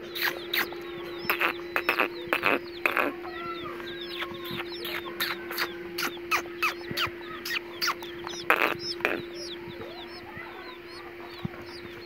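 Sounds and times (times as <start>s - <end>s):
chicks peeping: 0.0s - 12.0s
low hum: 0.0s - 12.0s.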